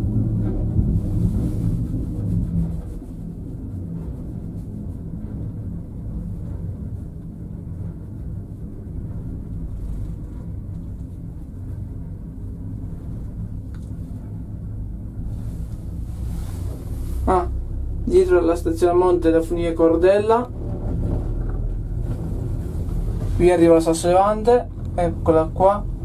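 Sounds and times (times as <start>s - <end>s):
gondola cabin rumbling: 0.0s - 26.0s.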